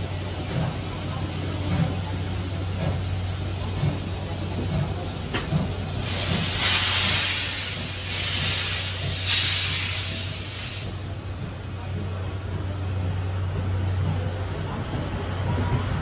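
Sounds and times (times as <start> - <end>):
loud steam hisses: 0.0 - 13.9.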